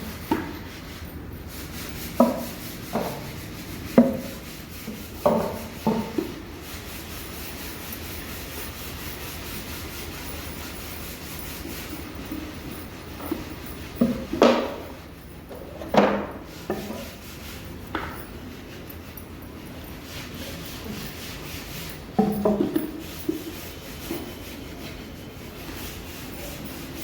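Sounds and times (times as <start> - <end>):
faint rubbing sound: 0.0 - 27.0.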